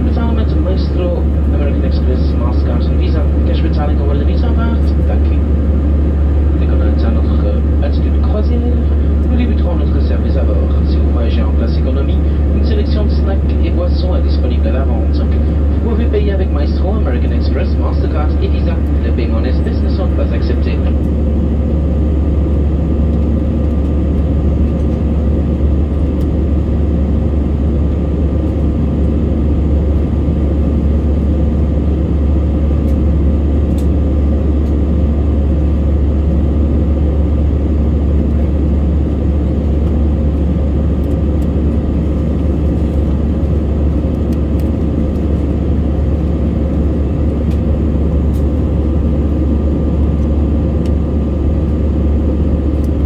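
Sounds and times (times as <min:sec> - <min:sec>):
jet airliner cabin rumble: 0:00.0 - 0:53.0.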